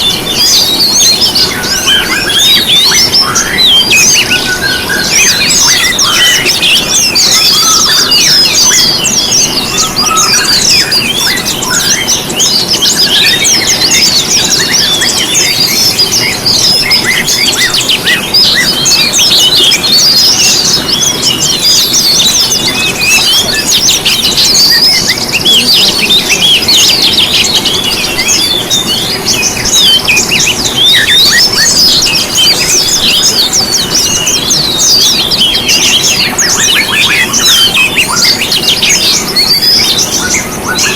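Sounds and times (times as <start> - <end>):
songbirds chorus singing: 0.0 - 40.9.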